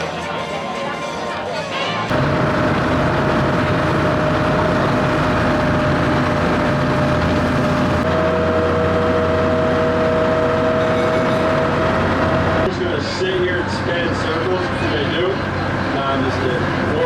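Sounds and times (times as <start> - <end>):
steady whine: 0.0 - 17.0
lower whine: 2.1 - 17.0
vehicle engine rumble: 2.1 - 17.0.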